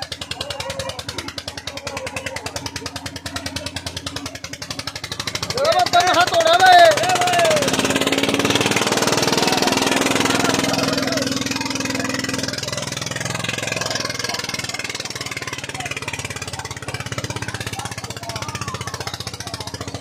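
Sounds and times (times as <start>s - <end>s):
tractor diesel engine labouring: 0.0s - 20.0s.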